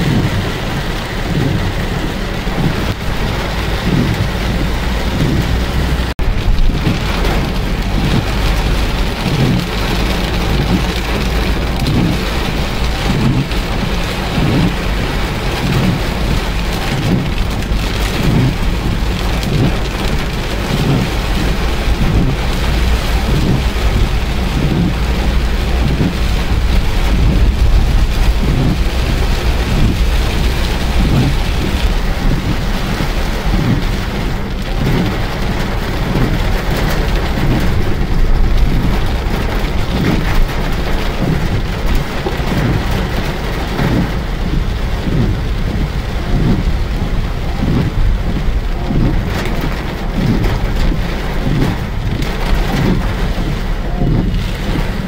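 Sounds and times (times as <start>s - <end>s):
deep continuous rumble: 0.0s - 55.0s
heavy rain pouring: 0.0s - 55.0s.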